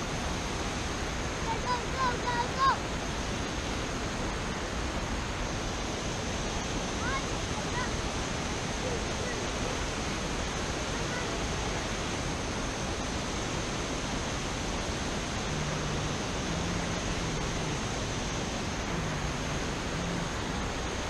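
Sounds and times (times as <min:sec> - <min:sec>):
water rushing over waterfall: 0:00.0 - 0:21.0.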